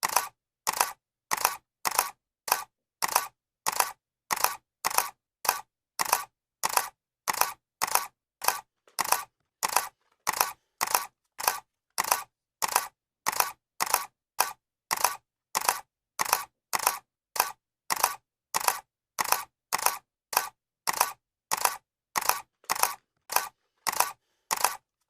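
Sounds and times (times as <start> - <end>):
camera shutter clicking: 0.0 - 24.8.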